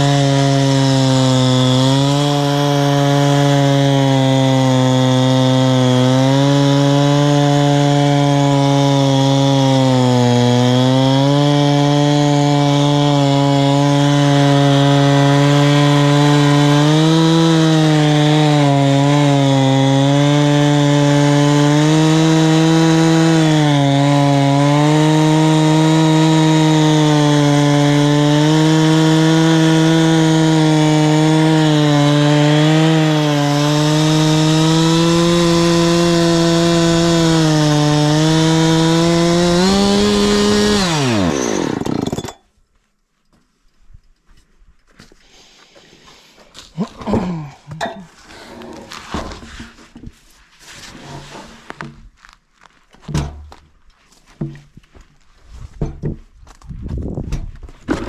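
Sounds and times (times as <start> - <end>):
chainsaw cutting through log: 0.0 - 42.5, 45.2 - 52.2.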